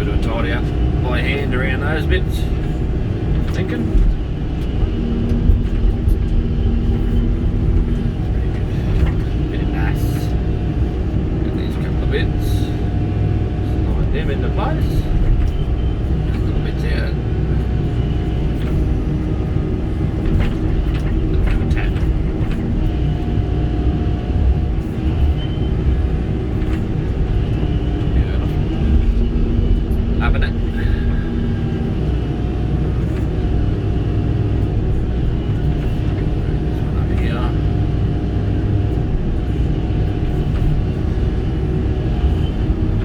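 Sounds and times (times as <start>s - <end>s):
excavator diesel engine running: 0.0s - 43.0s
thin steady whine: 0.0s - 43.0s.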